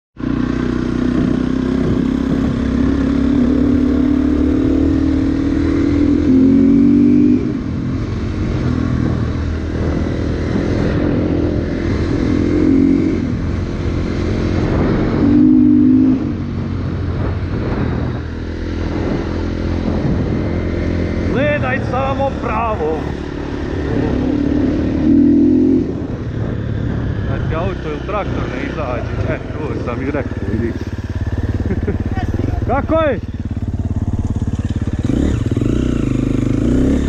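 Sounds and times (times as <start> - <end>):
motorcycle engine revving: 0.2 - 37.0.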